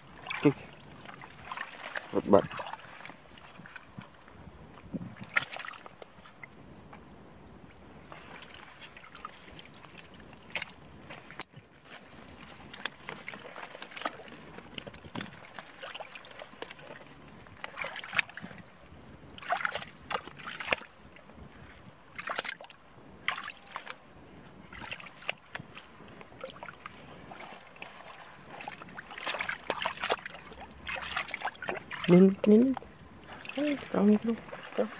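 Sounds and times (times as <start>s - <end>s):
hands sloshing in wet mud: 0.0s - 4.2s, 5.2s - 6.4s, 8.0s - 18.7s, 19.4s - 21.0s, 22.1s - 24.0s, 24.7s - 34.9s.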